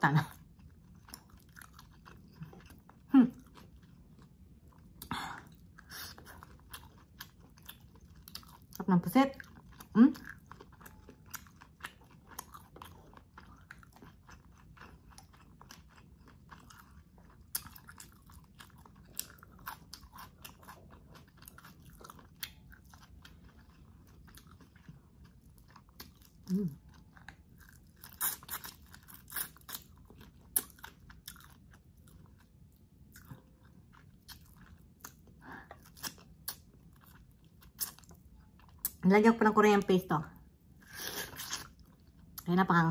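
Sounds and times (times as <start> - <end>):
chewing and mouth smacking: 0.3 - 8.8, 9.4 - 39.0.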